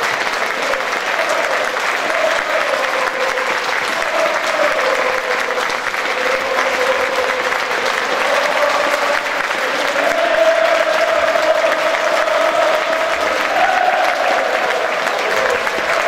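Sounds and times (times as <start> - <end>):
stadium crowd applauding: 0.0 - 16.0.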